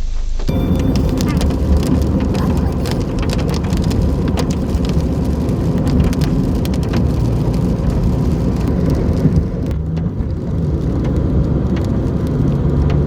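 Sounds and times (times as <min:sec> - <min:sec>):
car road and engine noise: 0:00.4 - 0:13.0
raindrops ticking on car body: 0:00.5 - 0:13.0.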